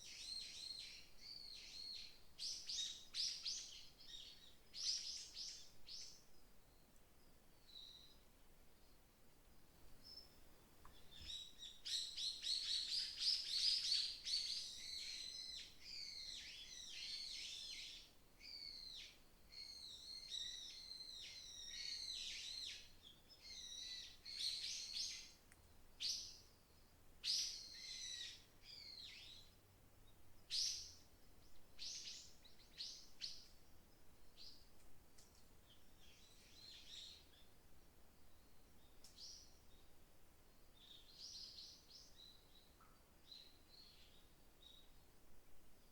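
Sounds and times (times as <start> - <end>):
small songbirds chirping: 0.0 - 45.9.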